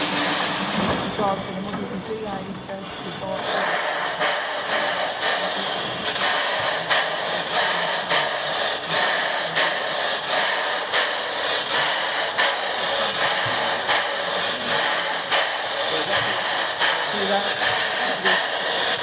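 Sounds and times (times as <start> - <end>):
steam pump hissing and puffing: 0.0 - 19.0.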